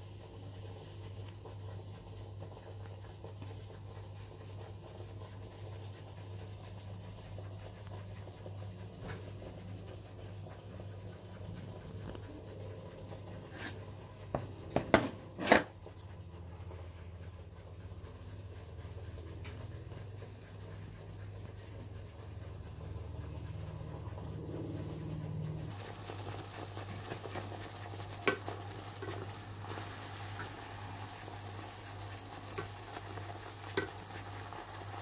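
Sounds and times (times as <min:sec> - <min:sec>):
steady low hum: 0:03.0 - 0:35.0.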